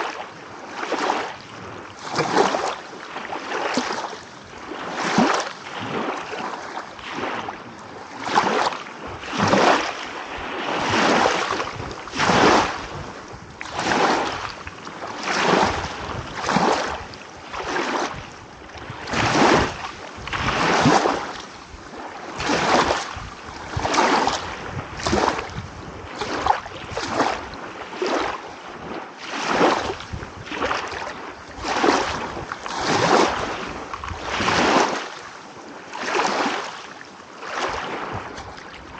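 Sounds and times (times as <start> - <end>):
small waves breaking: 0.0 - 38.9.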